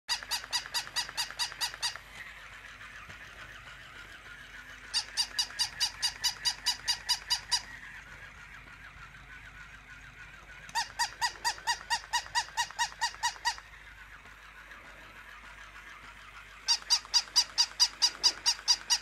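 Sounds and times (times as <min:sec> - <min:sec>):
small motor whirring: 0:00.1 - 0:19.0
toy dog electronic yaps: 0:00.1 - 0:19.0.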